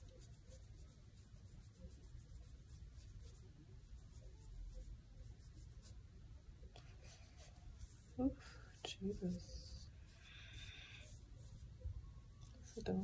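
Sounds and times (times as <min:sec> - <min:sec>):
soft rubbing strokes: 0:00.0 - 0:13.0.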